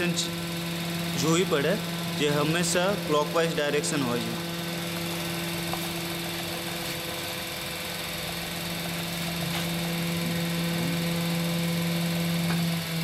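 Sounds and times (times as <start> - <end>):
cutting machine motor humming: 0.0 - 13.0.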